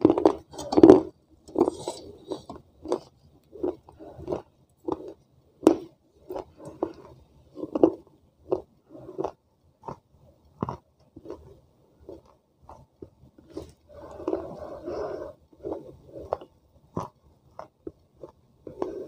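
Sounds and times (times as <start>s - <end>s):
chewing and crunching clay: 0.0s - 19.0s.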